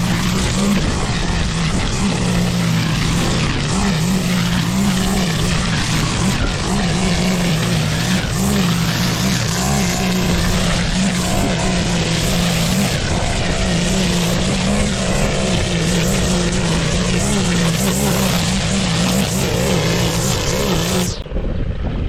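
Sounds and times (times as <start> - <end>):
blade rushing through grass: 0.0 - 21.2
lawn mower engine running: 0.0 - 21.2.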